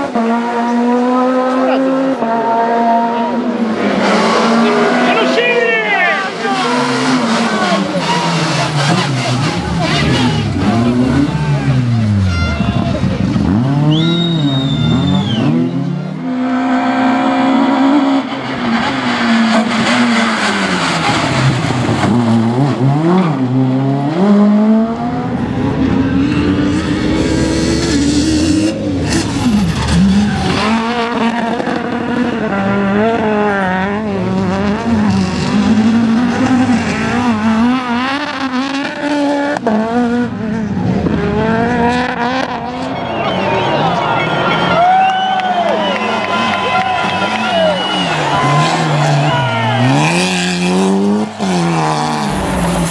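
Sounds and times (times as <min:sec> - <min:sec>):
rally car engines revving: 0:00.0 - 0:52.9.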